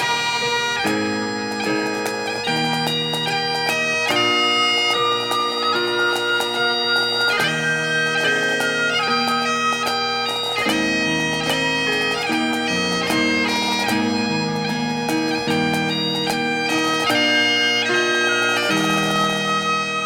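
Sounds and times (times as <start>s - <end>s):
bagpipe drones: 0.0s - 20.0s
bagpipe melody: 0.0s - 20.0s.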